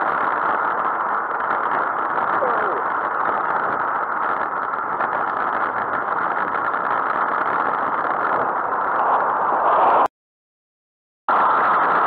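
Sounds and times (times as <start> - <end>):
bicycle road noise: 0.0 - 10.1, 11.3 - 12.0
rushing wind: 0.0 - 10.1, 11.3 - 12.0.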